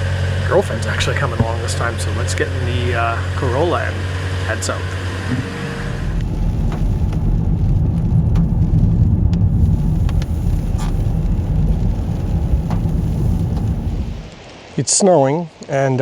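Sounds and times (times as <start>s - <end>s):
road and engine rumble: 0.0s - 14.8s.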